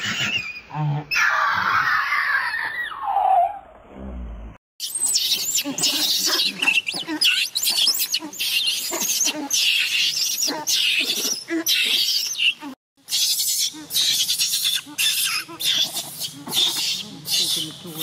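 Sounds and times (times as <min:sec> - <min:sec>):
baby monkey screaming: 0:00.0 - 0:03.6, 0:04.8 - 0:18.0.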